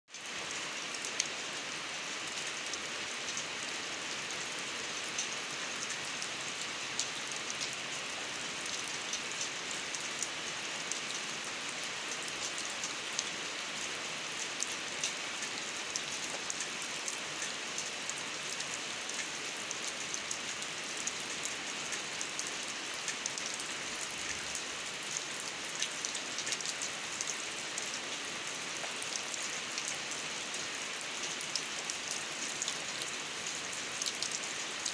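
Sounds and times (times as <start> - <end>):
rain on concrete and grass: 0.1 - 34.9.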